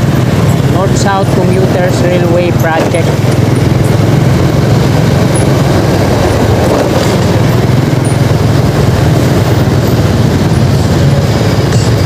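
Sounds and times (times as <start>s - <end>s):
motorcycle engine drone: 0.0s - 12.0s
road and wind noise: 0.0s - 12.0s.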